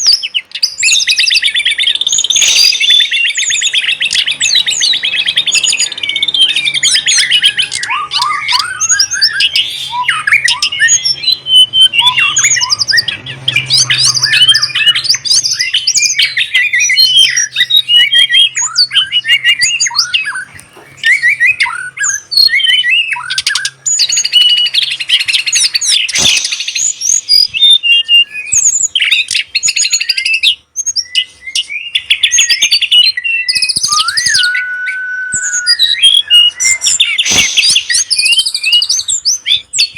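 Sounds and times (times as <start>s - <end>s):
songbirds singing trills: 0.0s - 39.9s.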